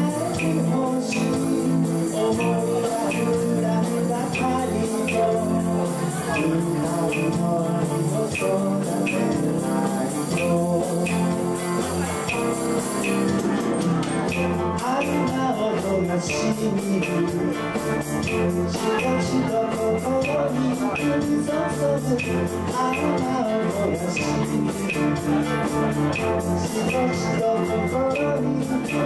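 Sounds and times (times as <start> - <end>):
cymbal-like ticking: 0.0 - 27.4
live band playing rumba: 0.0 - 29.0
percussion ticking: 0.0 - 29.0.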